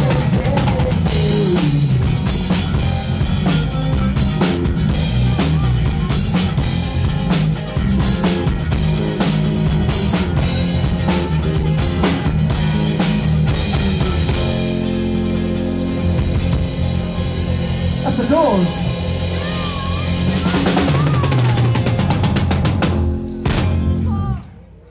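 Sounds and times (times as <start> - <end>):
drum kit beat: 0.0 - 24.4
electric guitar: 0.0 - 24.6.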